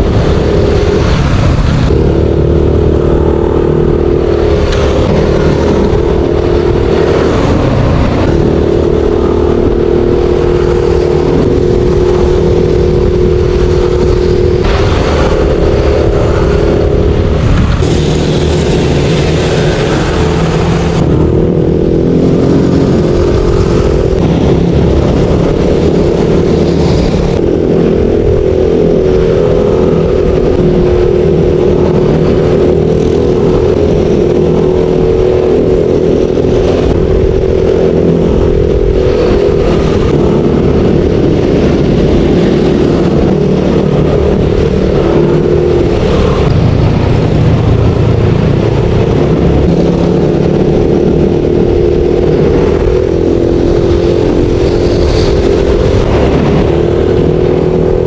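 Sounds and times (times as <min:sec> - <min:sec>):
scooter engine running: 0:00.0 - 0:58.0.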